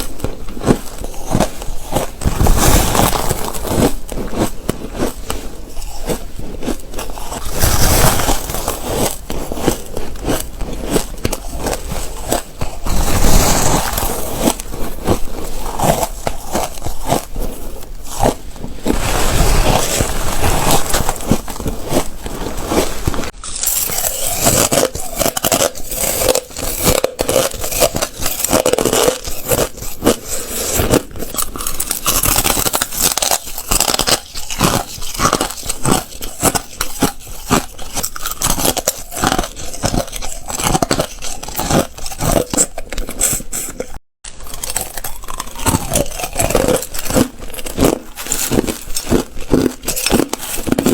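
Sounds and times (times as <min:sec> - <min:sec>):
ice being chewed: 0:00.0 - 0:50.9.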